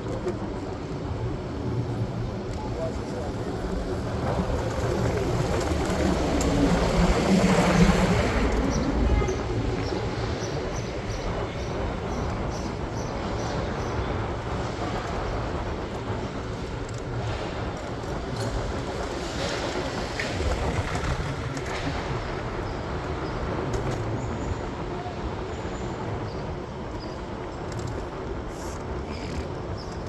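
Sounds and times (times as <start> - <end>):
vehicle rumble: 0.0 - 30.0.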